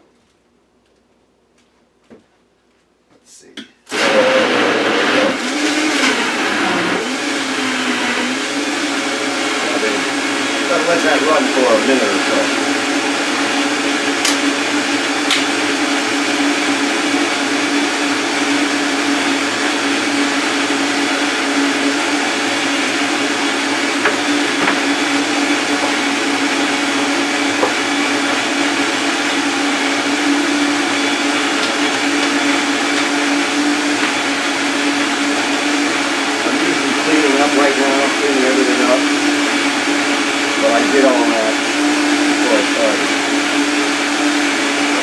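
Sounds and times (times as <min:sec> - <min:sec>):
blender whirring: 0:03.9 - 0:45.0.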